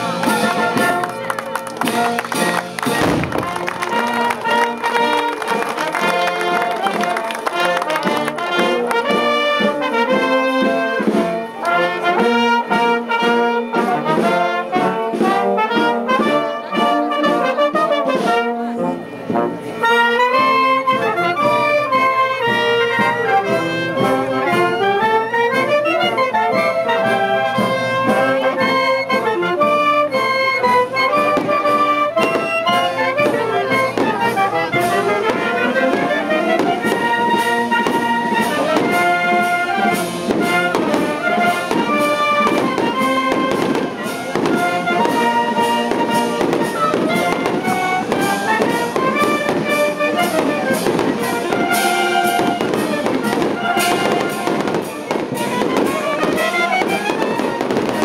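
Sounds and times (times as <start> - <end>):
wind band playing a tune: 0.0 - 58.0.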